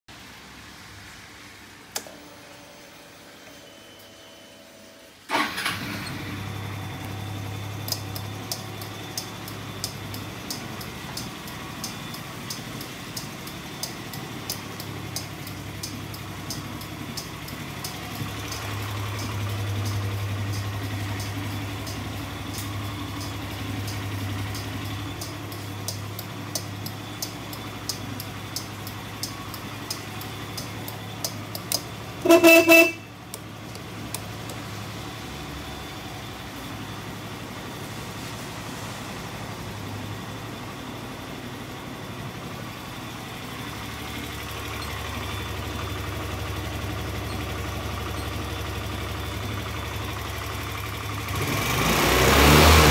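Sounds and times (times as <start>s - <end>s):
scooter engine idling: 5.3s - 52.9s.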